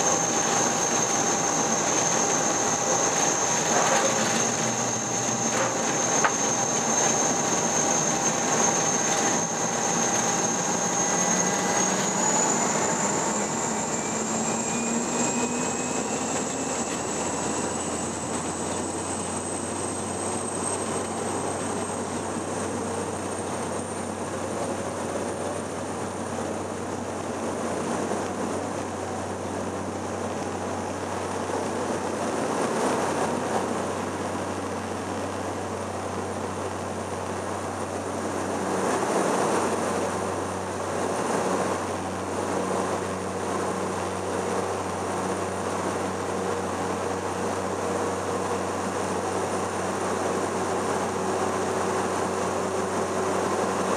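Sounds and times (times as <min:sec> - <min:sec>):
high turbine whine: 0:00.0 - 0:53.9
turboprop engine drone: 0:00.0 - 0:53.9.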